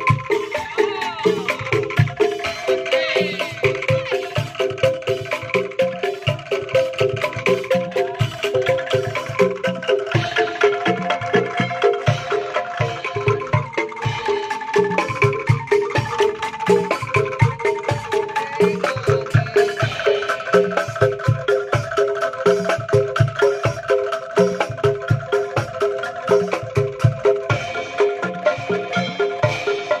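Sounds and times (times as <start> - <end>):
background music with beat: 0.0 - 30.0.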